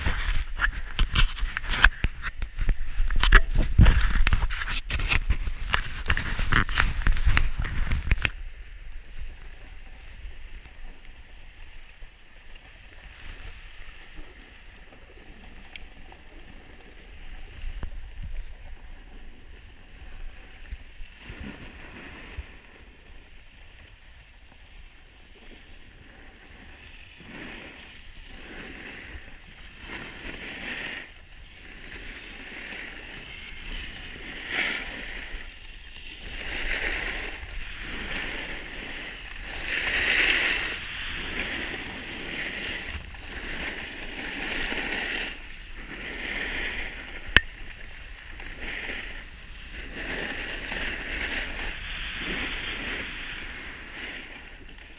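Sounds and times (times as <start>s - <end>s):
skis scraping over snow: 0.0s - 54.9s.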